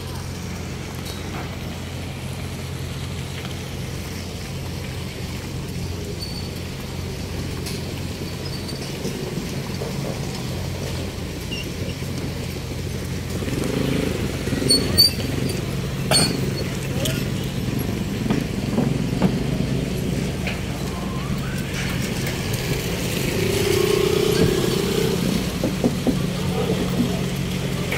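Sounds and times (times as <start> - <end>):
vehicle engines humming: 0.0 - 27.9.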